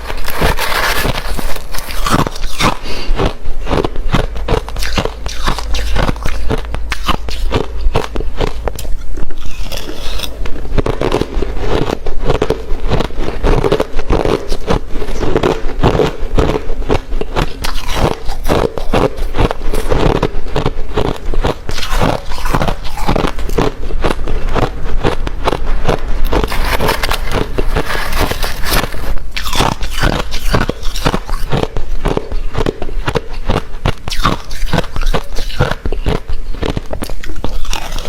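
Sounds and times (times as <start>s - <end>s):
crunching ice being chewed: 0.0s - 38.0s.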